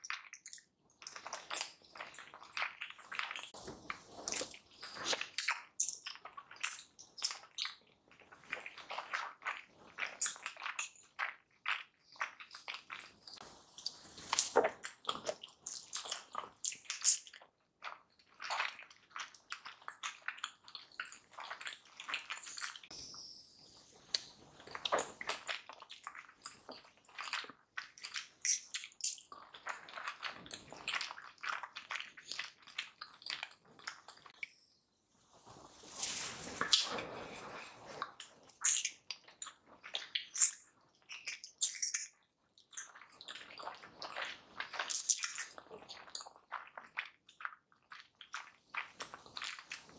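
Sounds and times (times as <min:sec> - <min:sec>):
wet chewing mouth sounds: 0:00.1 - 0:23.0, 0:24.0 - 0:34.6, 0:36.6 - 0:49.9.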